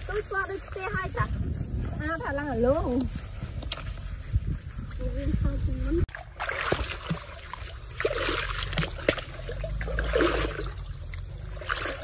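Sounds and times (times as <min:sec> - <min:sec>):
footsteps wading through water: 0:00.0 - 0:12.0.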